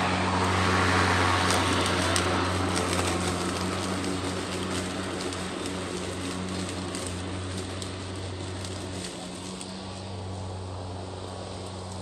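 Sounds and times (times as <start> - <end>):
lawn mower cutting grass: 0.0 - 12.0.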